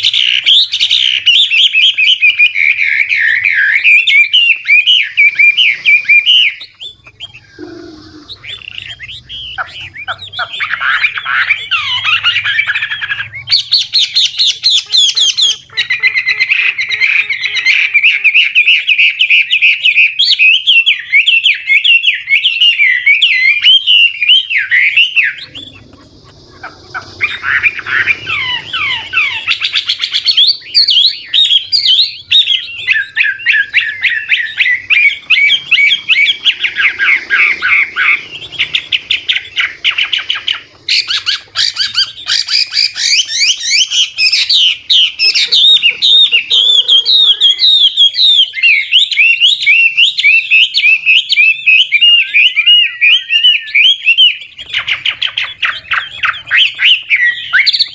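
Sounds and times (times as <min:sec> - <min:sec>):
songbird warbling and trilling: 0:00.0 - 0:57.9.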